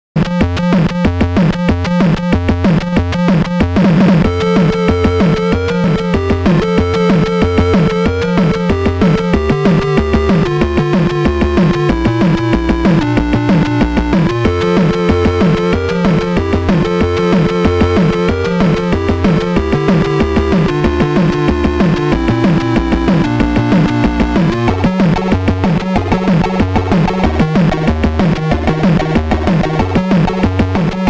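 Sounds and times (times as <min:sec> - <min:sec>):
electronic synthesizer music with beat: 0:00.2 - 0:31.0.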